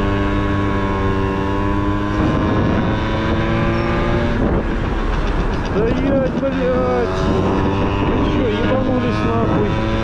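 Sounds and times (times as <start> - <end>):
moped engine running: 0.0 - 10.0
wind and road rumble: 0.0 - 10.0.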